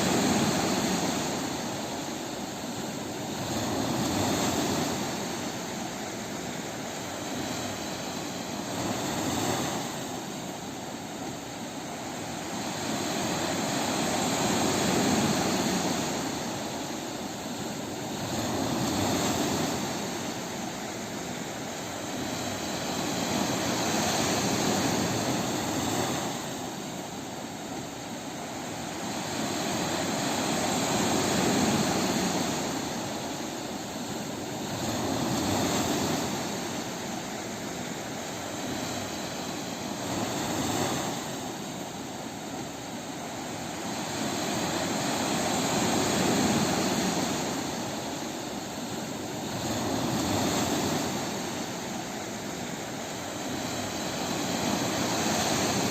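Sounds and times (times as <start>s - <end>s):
waves breaking on a beach: 0.0s - 55.9s.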